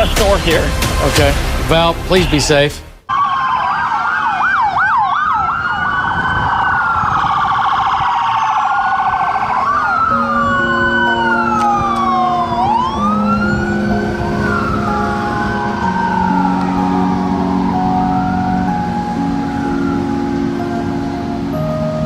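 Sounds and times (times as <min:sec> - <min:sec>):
sirens wailing: 0:03.1 - 0:22.0.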